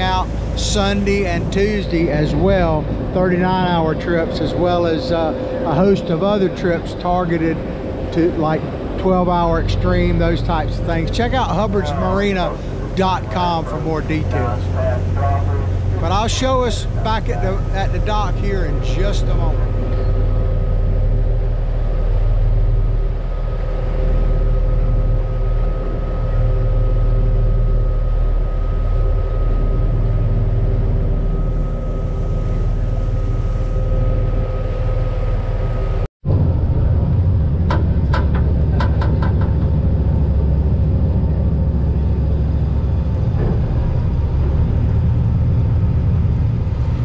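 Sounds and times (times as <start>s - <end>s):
boat engines rumbling: 0.0s - 47.0s
engine whine: 0.0s - 47.0s.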